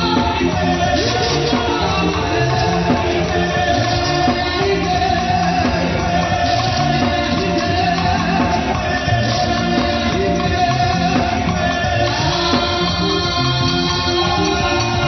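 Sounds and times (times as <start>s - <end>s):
voices singing: 0.0s - 15.0s
worship band playing: 0.0s - 15.0s.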